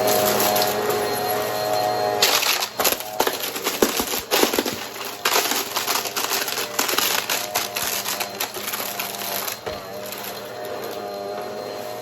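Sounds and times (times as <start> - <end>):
vacuum cleaner crackling debris: 0.0 - 12.0
vacuum motor whine: 0.0 - 12.0.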